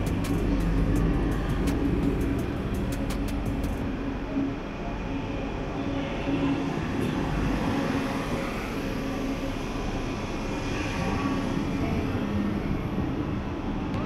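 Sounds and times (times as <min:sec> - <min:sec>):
train passing: 0:00.0 - 0:14.0.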